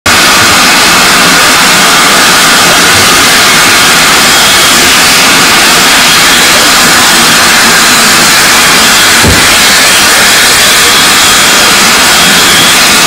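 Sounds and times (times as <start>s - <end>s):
steam train hiss: 0.1s - 13.0s.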